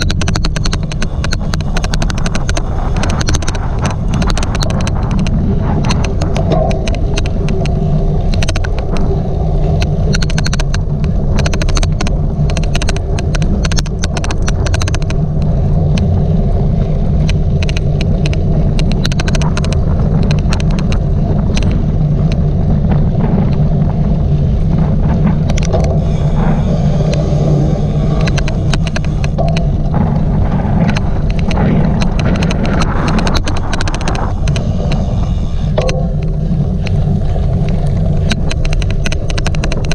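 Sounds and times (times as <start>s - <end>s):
sharp clicks from bike: 0.0s - 9.1s, 9.8s - 16.1s, 17.2s - 23.7s, 25.3s - 39.9s
wind rushing over microphone: 0.0s - 39.9s.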